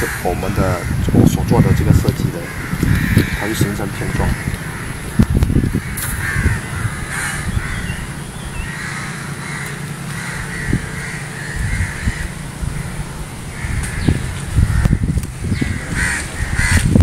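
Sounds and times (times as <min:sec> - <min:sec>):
birds harsh calls: 0:00.0 - 0:17.0.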